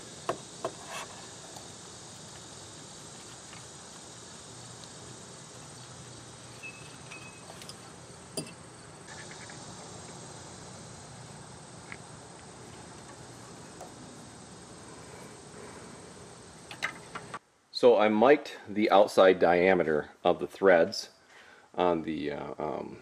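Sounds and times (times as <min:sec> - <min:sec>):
insect drone: 0:00.0 - 0:18.0, 0:21.4 - 0:23.0.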